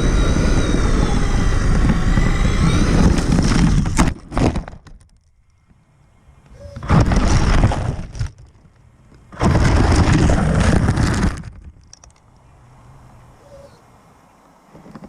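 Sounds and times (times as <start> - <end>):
rc truck motor rumbling: 0.0 - 12.4.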